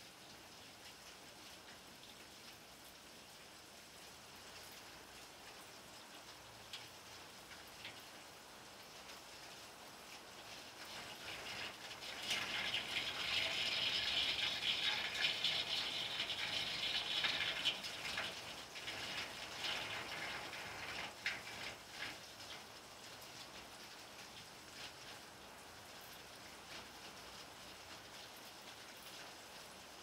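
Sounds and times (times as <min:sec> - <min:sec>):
rain on a flat roof: 0:00.0 - 0:30.0.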